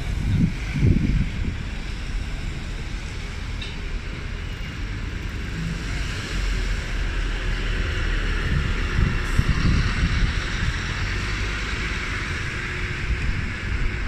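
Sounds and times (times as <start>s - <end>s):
bus driving past: 0.0s - 14.0s.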